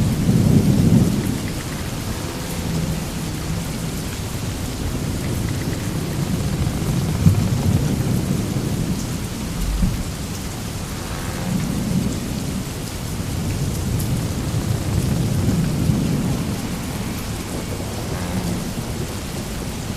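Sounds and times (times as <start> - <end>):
hissing wash: 0.0 - 19.9
low rumble: 0.0 - 19.9.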